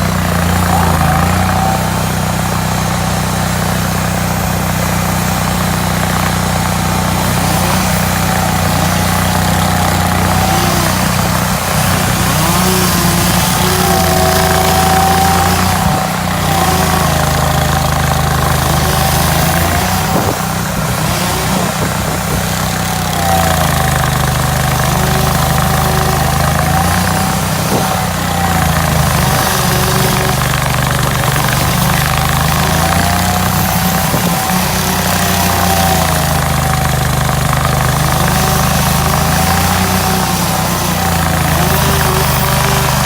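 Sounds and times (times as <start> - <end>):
cutter wheel whine: 0.0 - 43.0
stump grinder engine running: 0.0 - 43.0.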